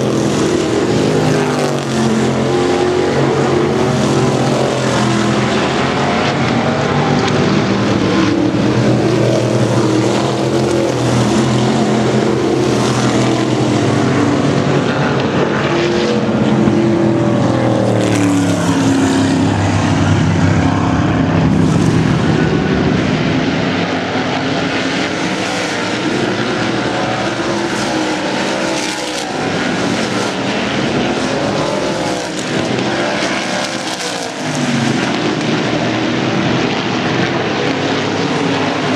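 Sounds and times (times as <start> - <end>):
race car engines passing: 0.0 - 38.9.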